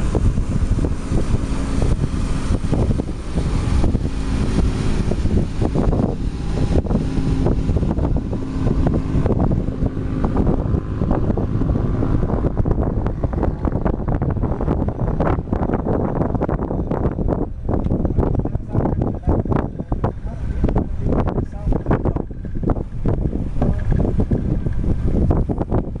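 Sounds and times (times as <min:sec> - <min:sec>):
boat engine drone: 0:00.0 - 0:26.0
wind buffeting microphone: 0:00.0 - 0:26.0.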